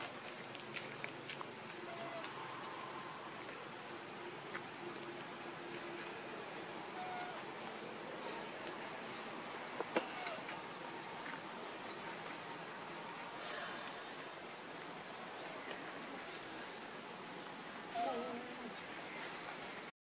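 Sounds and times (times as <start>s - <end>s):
steady outdoor hiss: 0.0s - 19.9s.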